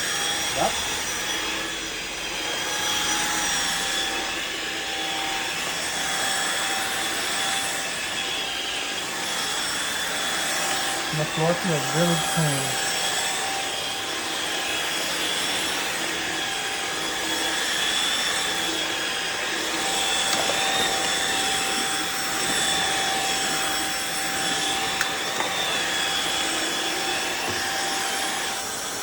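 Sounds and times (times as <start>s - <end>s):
floor washer motor whine: 0.0s - 29.0s.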